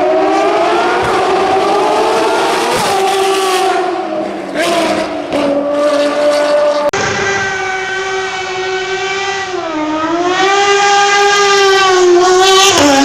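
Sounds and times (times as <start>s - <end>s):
race engine steady high revs: 0.0s - 13.0s
racing car engine shifting gears: 0.0s - 13.0s.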